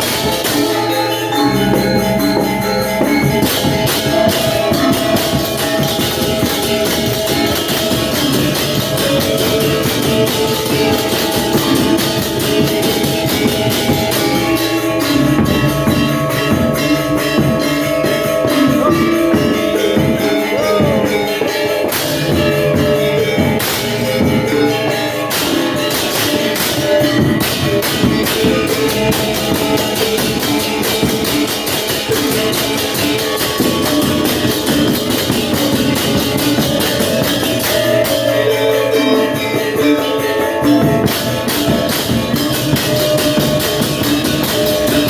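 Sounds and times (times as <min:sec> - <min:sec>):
bronze metallophones and gongs: 0:00.0 - 0:45.0
hand drumming: 0:00.0 - 0:45.0.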